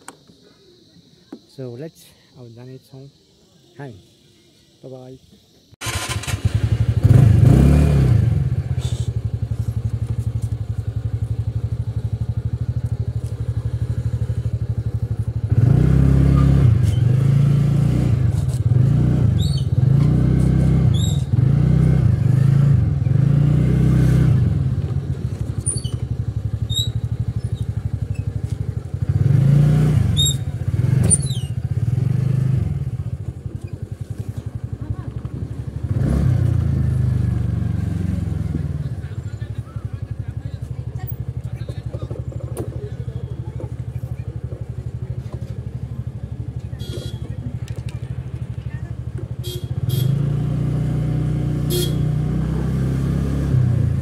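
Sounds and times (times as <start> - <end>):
scooter engine revving: 5.8 - 54.0.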